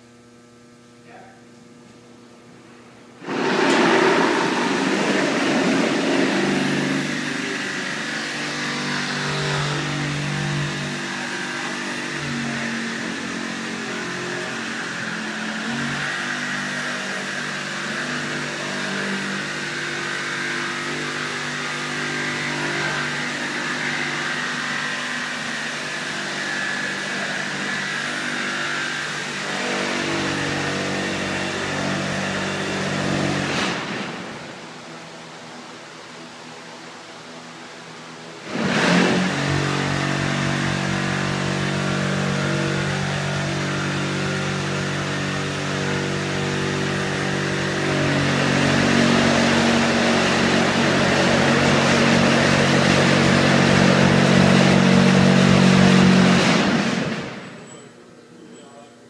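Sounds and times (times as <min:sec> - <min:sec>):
industrial machine hissing drone: 0:03.2 - 0:35.8, 0:37.6 - 0:57.6.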